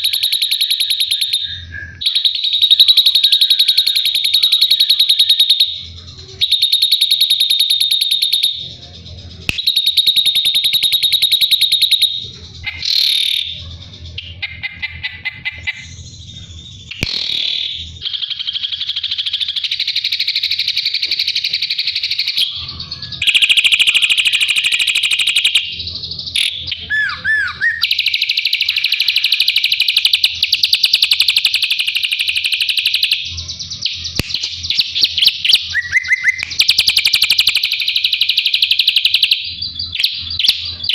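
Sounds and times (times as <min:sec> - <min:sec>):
bird trilling and whistling: 0:00.0 - 0:08.8, 0:09.4 - 0:40.9.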